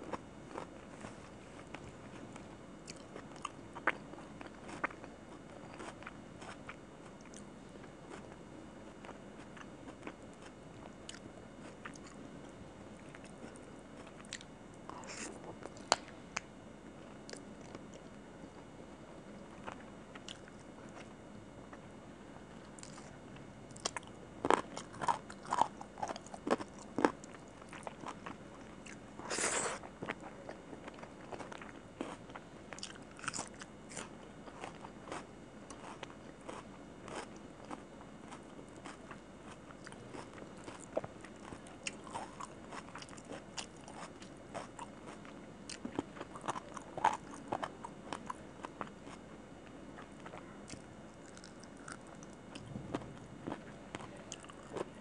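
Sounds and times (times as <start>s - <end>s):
person chewing food: 0.0s - 12.2s, 13.0s - 18.2s, 19.5s - 21.1s, 22.6s - 49.3s, 49.9s - 55.0s.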